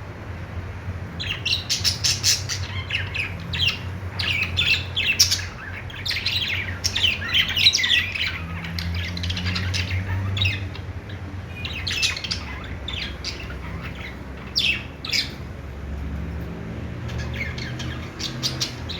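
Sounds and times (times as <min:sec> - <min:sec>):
budgies chirping and squawking: 0:01.1 - 0:18.9.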